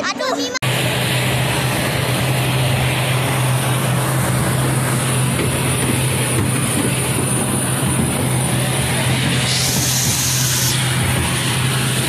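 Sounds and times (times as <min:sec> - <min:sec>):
jet airliner hum and hiss: 0:00.1 - 0:12.0.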